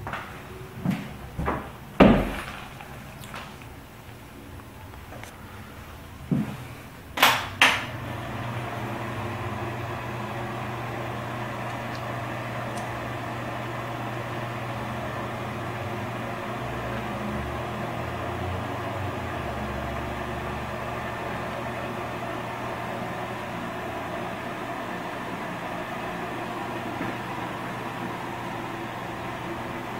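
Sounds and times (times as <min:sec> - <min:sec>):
bathroom exhaust fan humming: 0:00.0 - 0:29.9.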